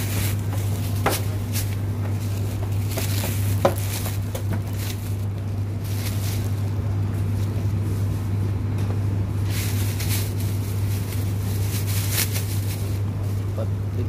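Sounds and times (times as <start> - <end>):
rustling: 0.0 - 13.6
refrigerated display case hum: 0.0 - 14.0.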